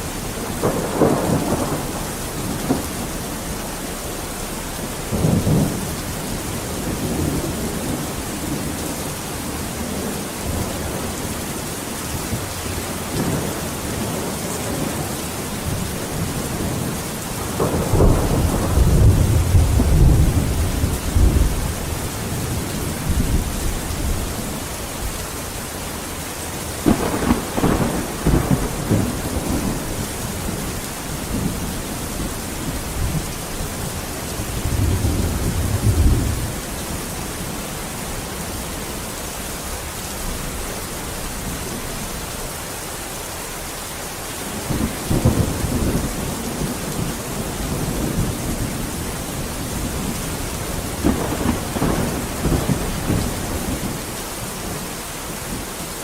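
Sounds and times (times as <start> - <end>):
thunder rumbling: 0.0 - 25.7, 26.6 - 38.9, 44.5 - 55.7
heavy rain falling: 0.0 - 56.0.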